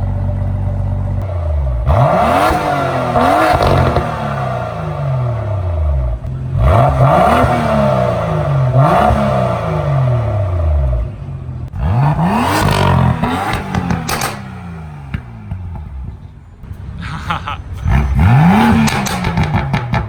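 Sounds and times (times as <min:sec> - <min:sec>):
car engine revving: 0:00.0 - 0:20.0
exhaust cracks: 0:00.0 - 0:20.0.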